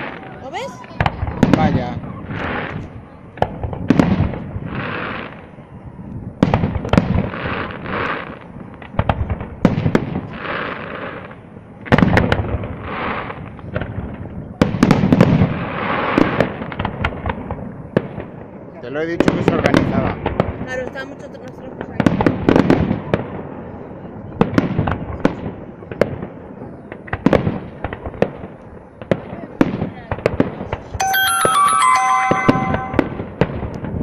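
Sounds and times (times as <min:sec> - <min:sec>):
fireworks bangs: 0:00.0 - 0:05.6, 0:06.3 - 0:34.0
fireworks crackling: 0:00.0 - 0:34.0.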